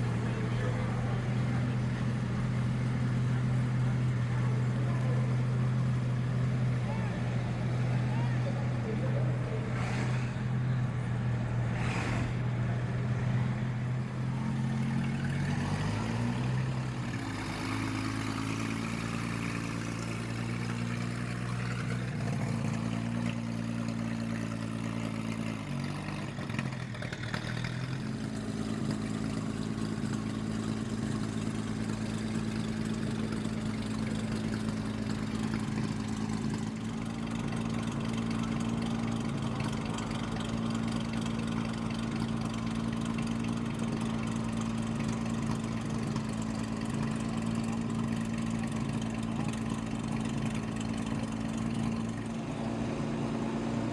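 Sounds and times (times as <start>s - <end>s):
racing car engine running: 0.0s - 53.9s.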